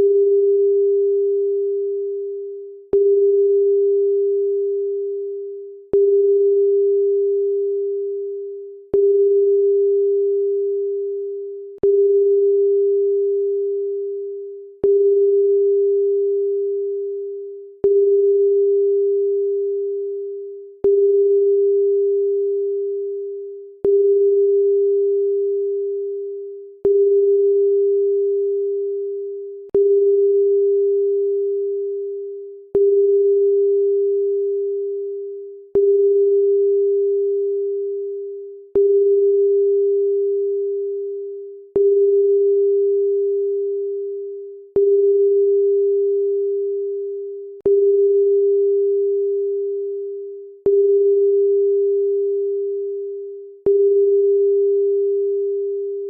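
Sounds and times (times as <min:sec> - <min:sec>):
pure electronic tone: 0:00.0 - 0:56.0.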